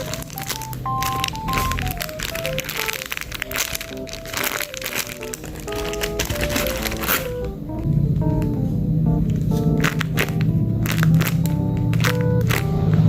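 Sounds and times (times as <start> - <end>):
packaging crinkling: 0.0 - 7.6, 9.3 - 13.0
music with plucked melody: 0.0 - 13.0.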